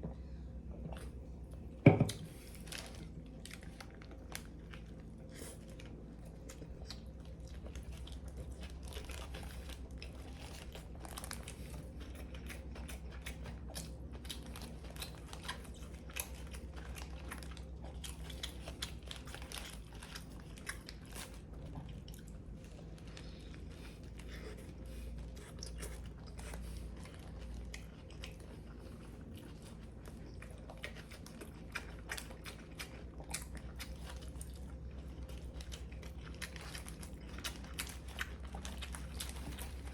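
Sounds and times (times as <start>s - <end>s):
biting and chewing toasted sandwich: 0.8s - 39.9s.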